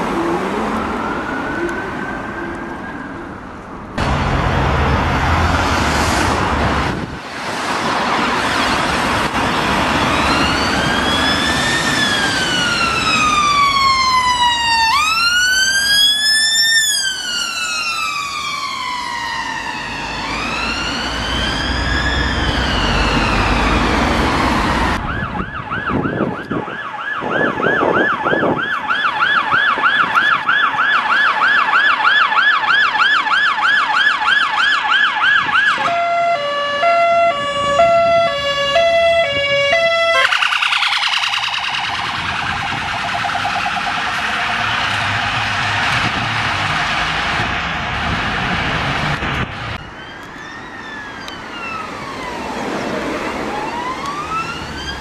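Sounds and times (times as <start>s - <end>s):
ambulance siren yelping: 0.0s - 3.5s, 9.6s - 46.8s, 49.7s - 55.0s
two-tone siren: 0.0s - 3.5s, 9.8s - 47.6s, 49.2s - 55.0s
ambulance siren wailing: 0.0s - 3.6s, 8.1s - 55.0s.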